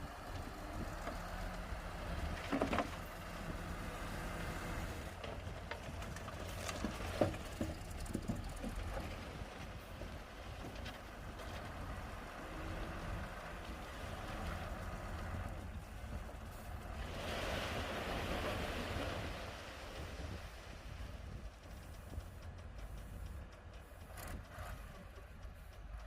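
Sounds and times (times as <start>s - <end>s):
bulldozer diesel engine rumbling: 0.0s - 26.0s.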